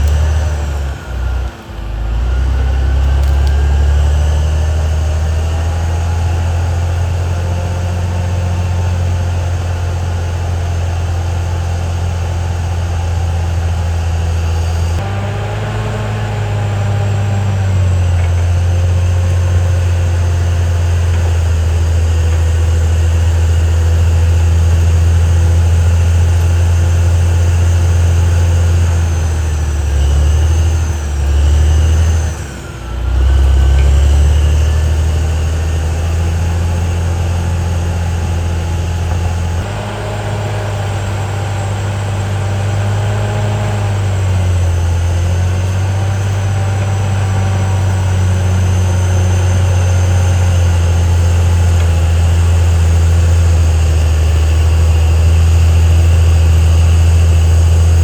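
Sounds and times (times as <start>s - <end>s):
bulldozer diesel engine drone: 0.0s - 58.0s.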